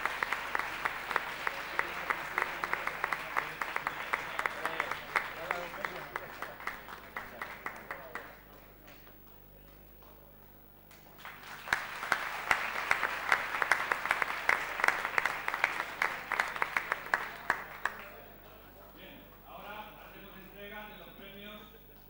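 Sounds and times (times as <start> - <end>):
group applauding: 0.0 - 10.2, 10.9 - 18.9.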